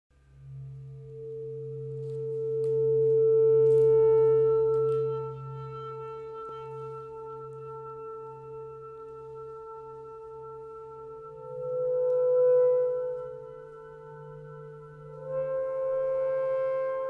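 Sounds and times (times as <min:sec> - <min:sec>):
ambient drone music: 0:00.3 - 0:17.0.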